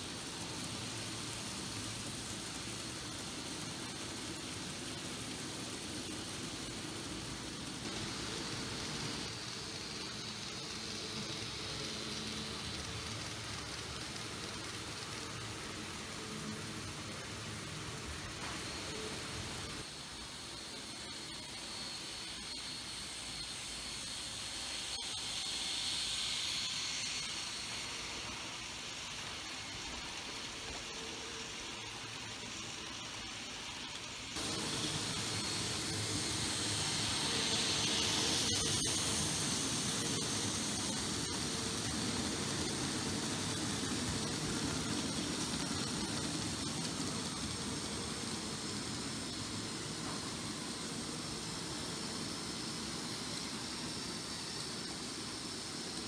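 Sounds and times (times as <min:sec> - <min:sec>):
model train motor whining on rails: 0:00.0 - 0:56.0.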